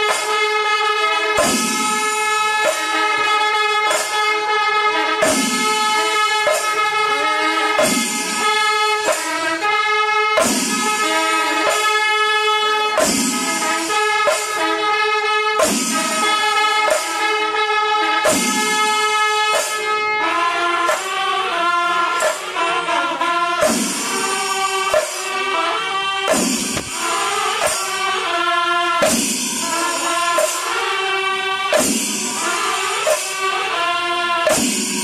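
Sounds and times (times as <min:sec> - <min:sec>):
sharp percussion strokes: 0:00.0 - 0:35.0.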